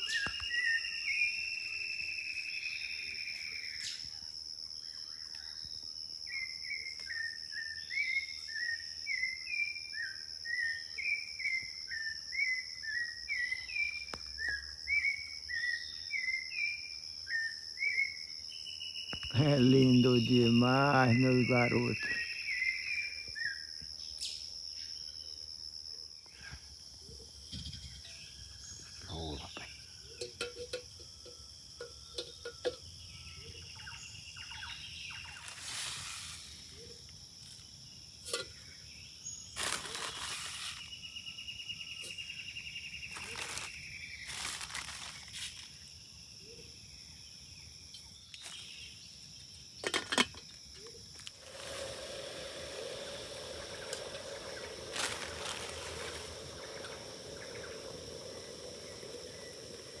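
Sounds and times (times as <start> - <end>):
high insect drone: 0.0 - 60.0.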